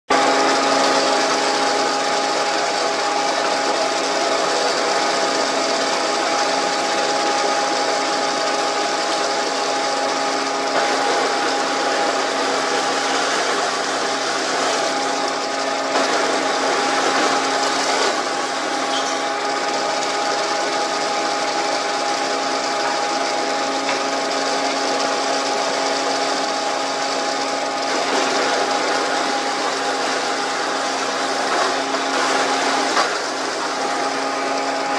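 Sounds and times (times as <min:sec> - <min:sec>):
drilling machine boring into wood: 0:00.1 - 0:34.9.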